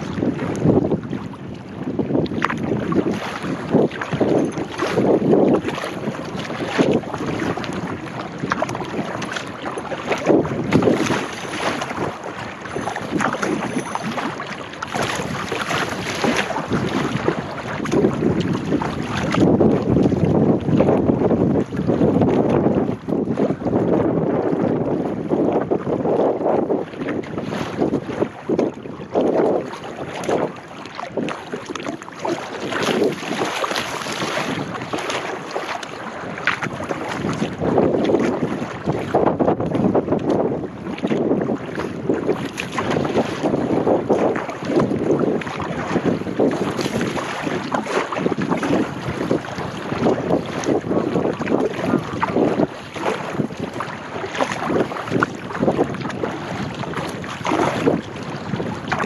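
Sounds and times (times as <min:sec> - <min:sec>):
kayak paddle splashing in water: 0:00.0 - 0:59.0
wind noise on microphone: 0:00.0 - 0:59.0.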